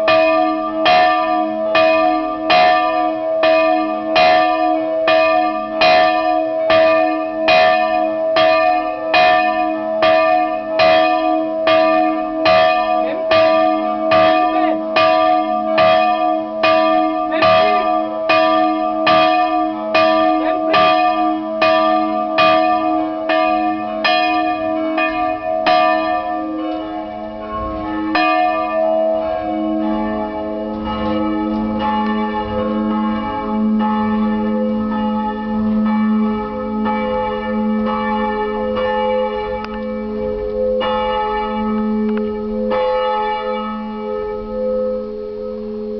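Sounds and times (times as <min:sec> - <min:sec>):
church bell ringing: 0:00.0 - 0:45.9.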